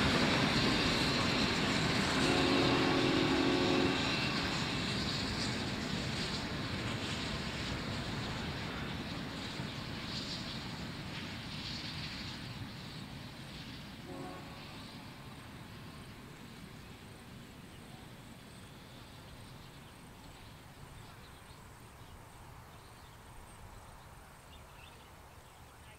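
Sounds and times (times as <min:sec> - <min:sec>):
steam locomotive exhaust: 0:00.0 - 0:21.7.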